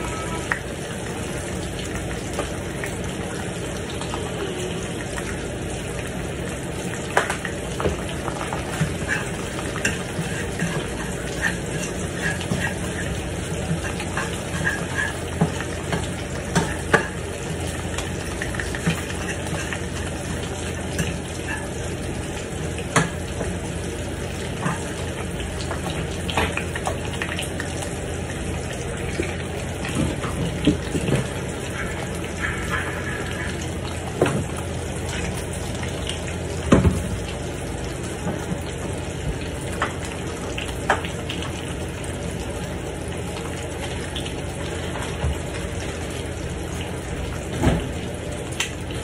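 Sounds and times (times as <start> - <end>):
food sizzling in a frying pan: 0.0 - 49.0.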